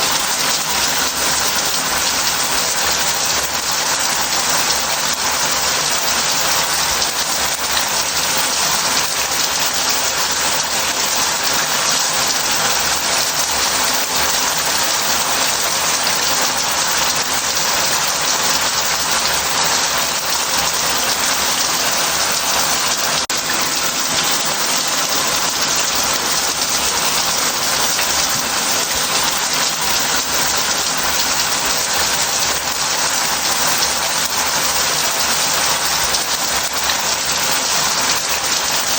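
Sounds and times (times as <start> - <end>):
shower water spraying into bath: 0.0 - 38.9.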